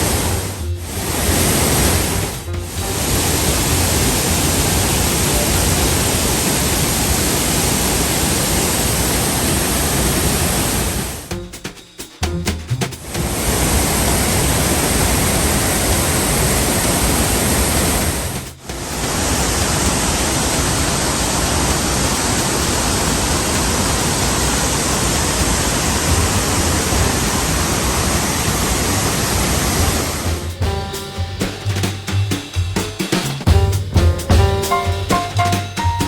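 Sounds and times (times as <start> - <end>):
music: 0.0 - 6.9, 11.0 - 16.5, 18.3 - 36.0
waterfall rushing: 0.0 - 11.3, 12.9 - 32.0.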